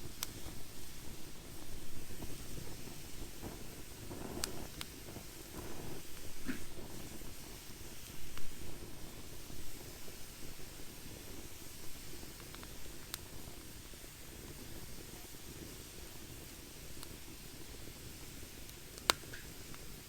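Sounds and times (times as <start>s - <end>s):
fire crackling and popping: 0.0s - 20.0s
wood fire burning: 0.0s - 20.0s.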